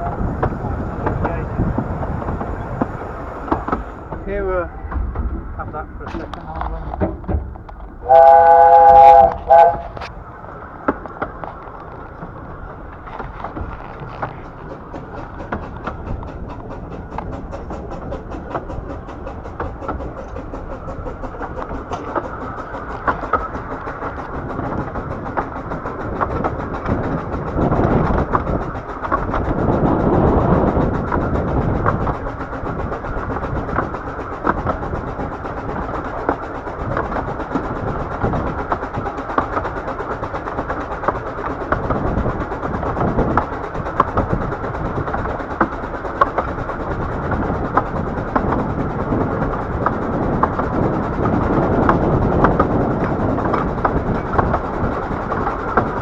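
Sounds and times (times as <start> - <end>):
steam train running: 0.0 - 56.0
wheels clicking over rail joints: 0.0 - 56.0.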